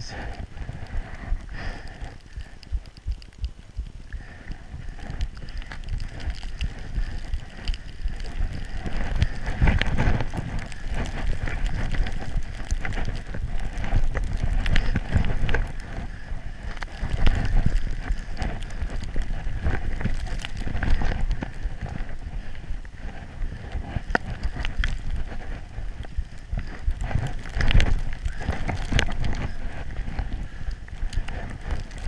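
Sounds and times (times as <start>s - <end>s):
wind buffeting microphone: 0.0s - 32.0s
skis scraping through snow: 4.2s - 32.0s.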